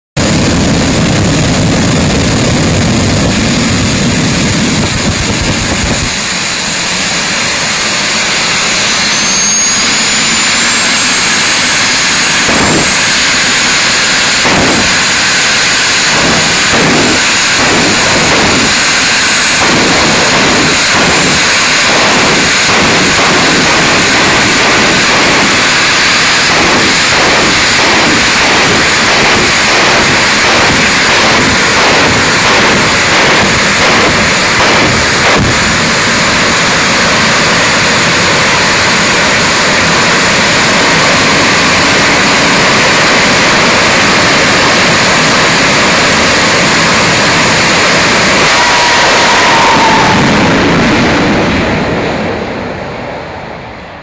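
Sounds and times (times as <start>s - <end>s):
high turbine whine: 0.2s - 54.0s
jet turbine engine roaring: 0.2s - 54.0s.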